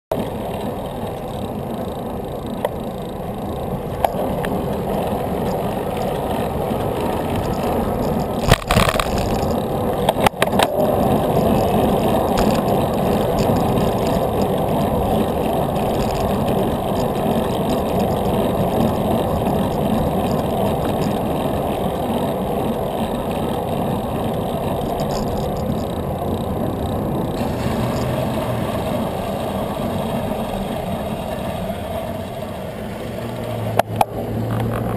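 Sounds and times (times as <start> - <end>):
wind and road noise: 0.1 - 34.9.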